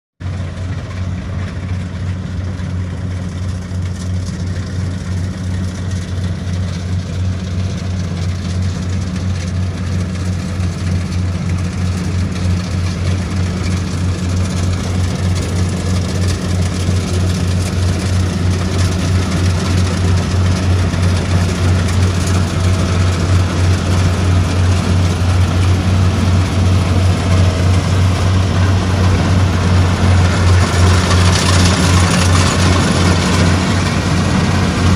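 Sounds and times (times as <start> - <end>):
combine harvester engine humming: 0.2 - 34.9.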